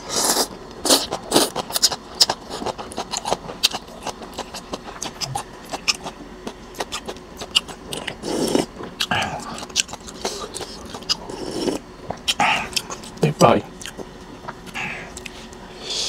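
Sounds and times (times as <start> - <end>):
wet chewing: 0.2 - 15.6.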